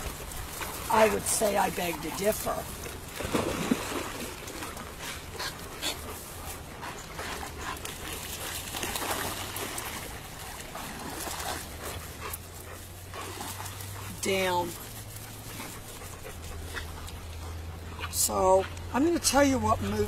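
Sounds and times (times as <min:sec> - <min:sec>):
dogs panting: 0:00.0 - 0:03.2, 0:04.1 - 0:20.0
dogs splashing in water: 0:00.0 - 0:20.0.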